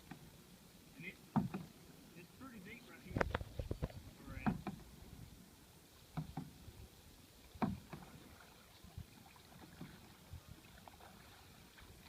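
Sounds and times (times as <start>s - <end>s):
kayak paddle splashes: 0.0s - 12.0s.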